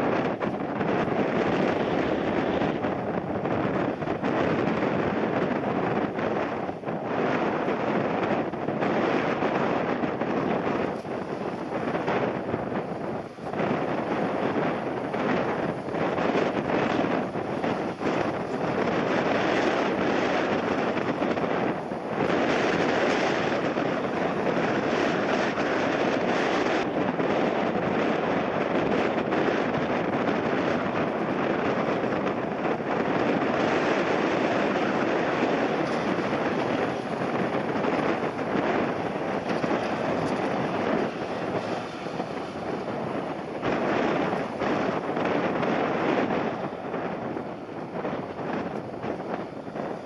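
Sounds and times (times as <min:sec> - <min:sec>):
gusty wind on microphone: 0:00.0 - 0:50.0.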